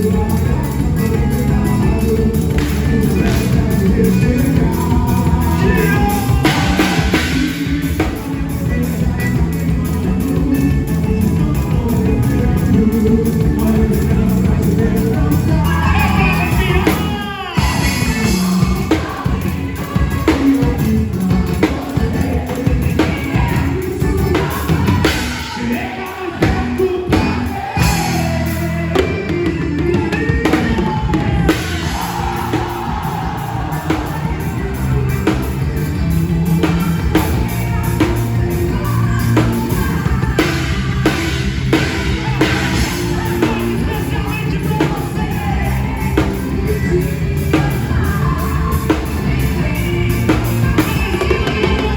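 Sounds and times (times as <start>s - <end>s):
band music: 0.0s - 51.9s
drum kit: 0.0s - 51.9s
person singing: 0.0s - 51.9s.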